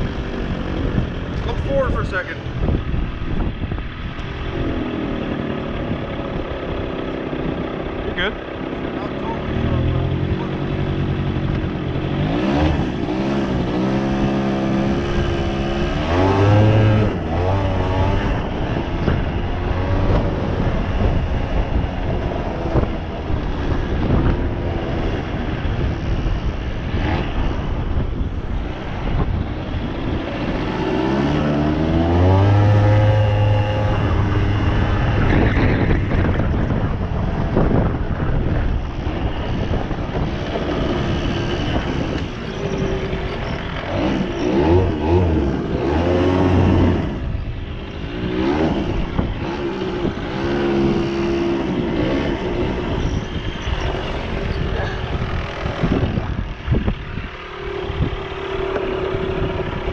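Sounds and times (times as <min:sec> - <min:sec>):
small two-stroke engine revving: 0:04.4 - 0:59.9.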